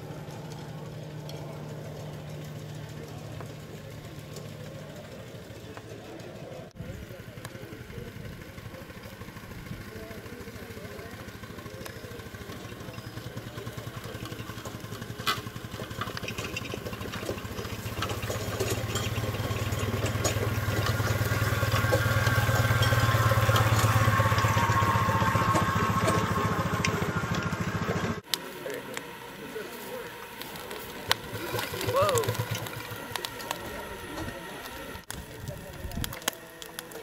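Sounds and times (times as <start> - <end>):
steam engine exhaust beating: 0.0 - 37.0.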